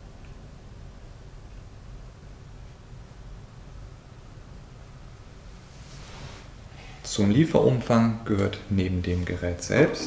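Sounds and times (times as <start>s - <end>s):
faint hiss: 0.0s - 10.0s
steady low hum: 0.0s - 10.0s.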